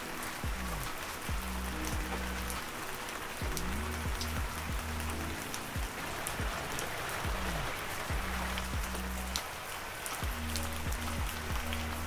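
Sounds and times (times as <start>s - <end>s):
rain on leaves: 0.0s - 12.0s
soft background music: 0.0s - 12.0s.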